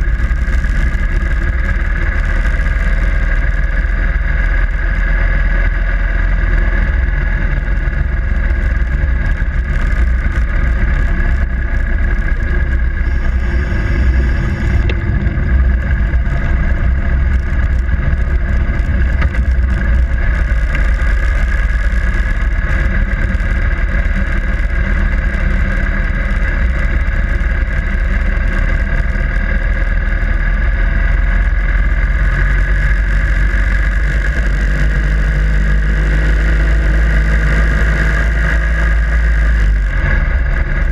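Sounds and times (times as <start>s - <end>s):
motorcycle engine rumbling: 0.0s - 40.9s.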